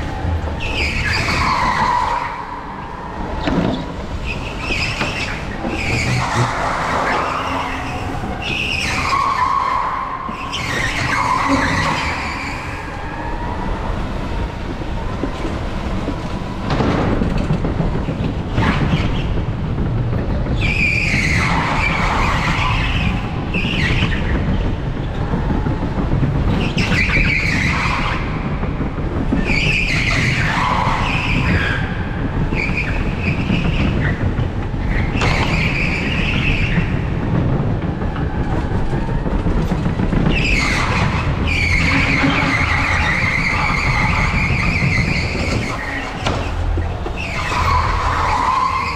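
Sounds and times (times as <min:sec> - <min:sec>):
go-kart tyres squealing: 0:00.0 - 0:48.9
kart rumbling on tarmac: 0:00.0 - 0:48.9.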